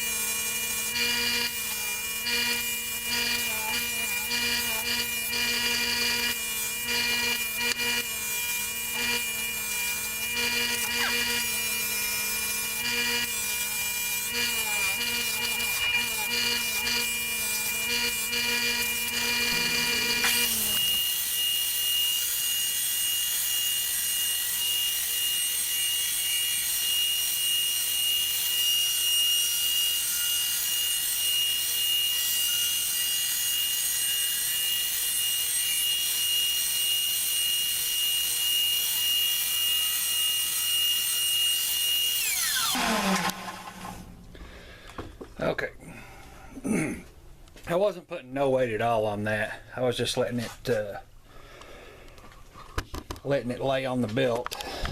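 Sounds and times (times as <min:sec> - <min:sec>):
steel grinding on sanding belt: 0:00.0 - 0:44.0
belt sander whining: 0:00.0 - 0:46.4.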